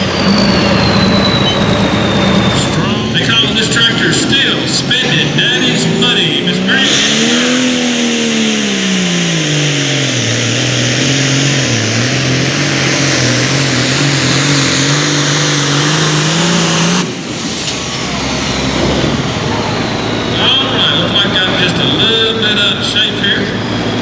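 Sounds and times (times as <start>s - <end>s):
engine running hard under load: 0.0s - 24.0s.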